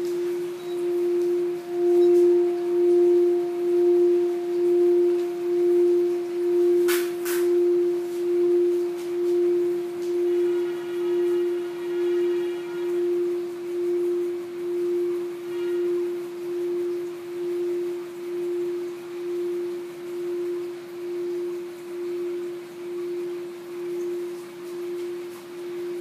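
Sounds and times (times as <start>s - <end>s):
singing bowl ringing: 0.0s - 26.0s.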